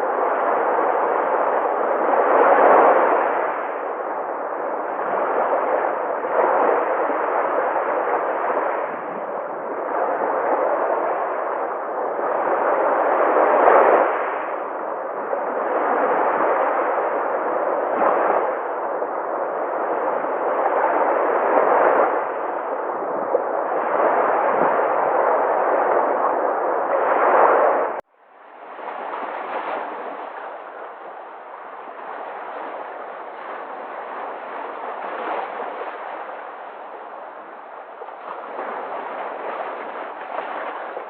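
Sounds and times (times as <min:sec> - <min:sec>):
sea waves breaking: 0:00.0 - 0:41.0.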